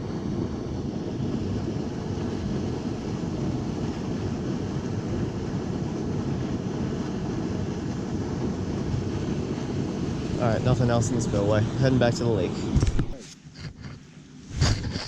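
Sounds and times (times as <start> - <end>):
water rushing through spillway: 0.0 - 13.0.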